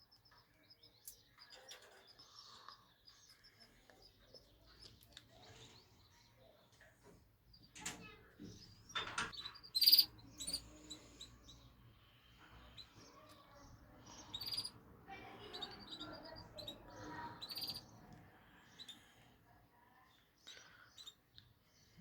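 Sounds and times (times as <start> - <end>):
birds chirping: 0.0 - 19.4, 20.1 - 22.0.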